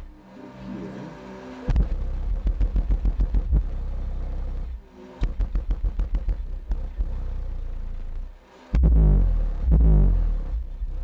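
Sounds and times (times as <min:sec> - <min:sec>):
subwoofer playing deep pulsing bass: 0:00.8 - 0:11.0.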